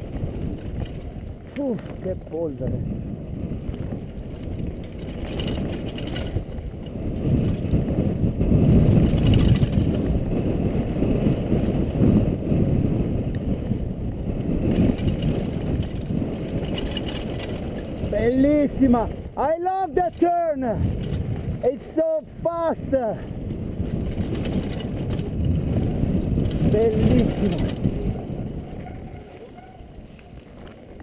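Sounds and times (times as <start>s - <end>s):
bike clattering over bumps: 0.0s - 2.4s, 3.1s - 21.6s, 23.2s - 31.0s
wind rushing over microphone: 0.0s - 31.0s.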